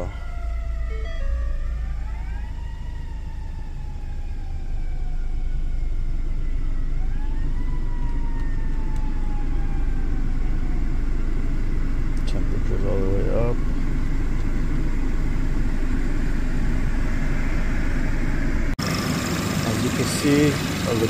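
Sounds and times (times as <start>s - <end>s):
siren wailing: 0.0s - 19.2s
car engine idling: 0.0s - 21.0s.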